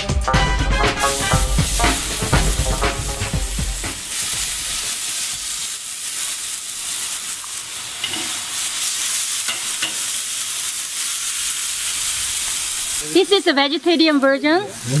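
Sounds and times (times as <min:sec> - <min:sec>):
meat sizzling on a grill pan: 0:01.0 - 0:15.0.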